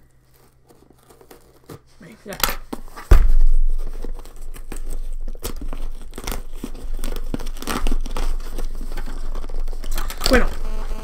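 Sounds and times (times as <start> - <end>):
cardboard tearing and rustling: 0.0 - 11.0.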